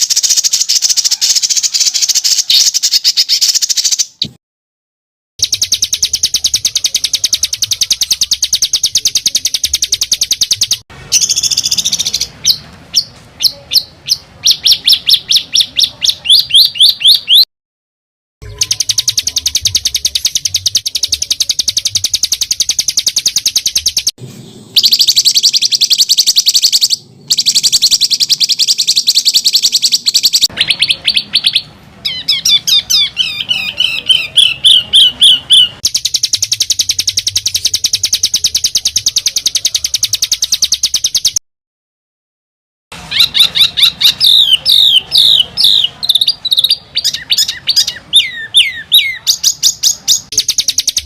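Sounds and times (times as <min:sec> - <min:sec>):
songbird trilling: 0:00.0 - 0:04.3, 0:05.4 - 0:17.5, 0:18.4 - 0:24.1, 0:24.7 - 0:41.4, 0:43.1 - 0:51.0.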